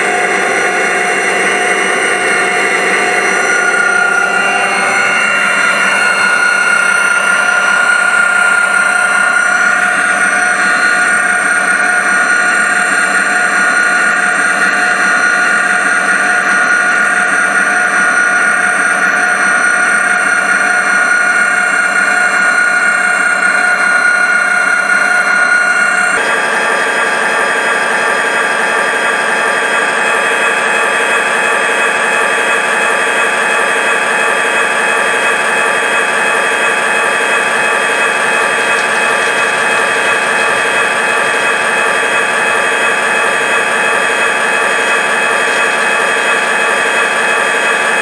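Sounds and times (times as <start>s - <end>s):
model train running with high whine: 0.0s - 48.0s.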